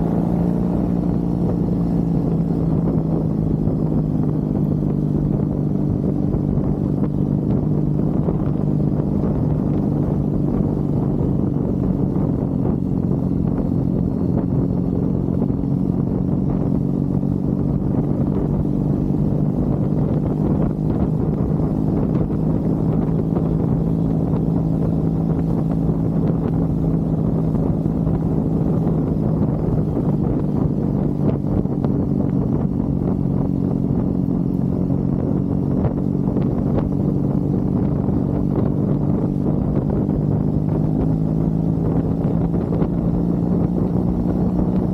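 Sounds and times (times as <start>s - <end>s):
motorcycle engine running steadily: 0.0s - 44.9s.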